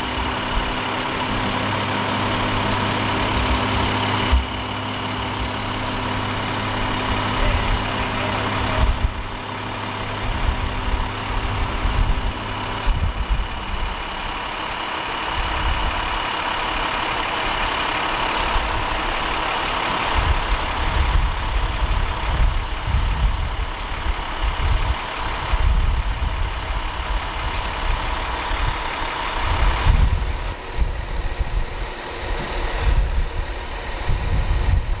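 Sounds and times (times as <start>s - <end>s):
diesel engines droning: 0.0s - 35.0s.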